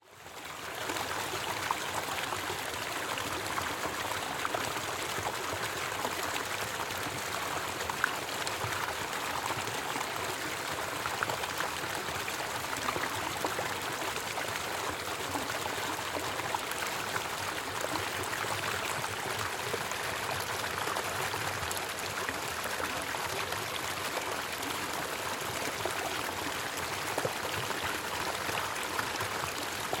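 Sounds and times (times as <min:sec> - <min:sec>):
creek water rushing over waterfall: 0:00.2 - 0:30.0.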